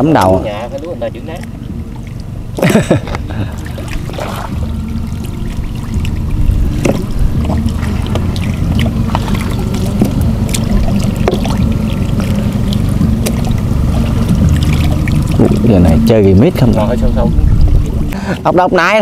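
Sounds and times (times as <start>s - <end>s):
small splashes and knocks: 0.0s - 16.9s
muddy water sloshing: 0.0s - 19.0s
steady low rumble: 0.0s - 19.0s.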